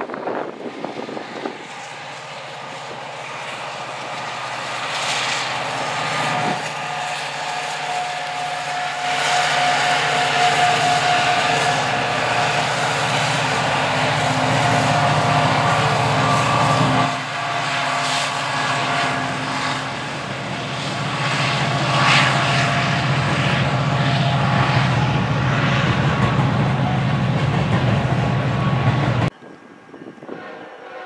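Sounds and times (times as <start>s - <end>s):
diesel locomotive engines: 0.0s - 31.0s
steady high whine: 2.8s - 30.4s.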